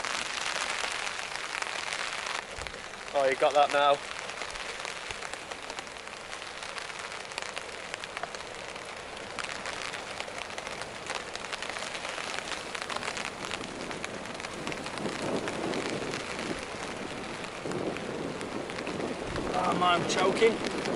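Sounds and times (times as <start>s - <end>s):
rain pattering on leaves: 0.0s - 20.9s.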